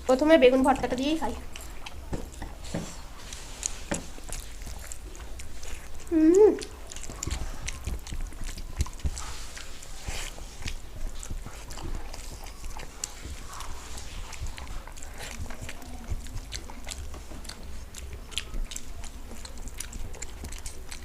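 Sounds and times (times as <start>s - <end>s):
chewing and lip-smacking: 0.0s - 21.0s
small mouth clicks: 3.6s - 21.0s.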